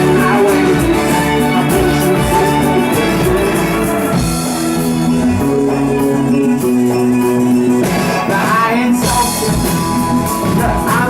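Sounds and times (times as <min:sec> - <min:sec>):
live rock band playing chords: 0:00.0 - 0:11.0.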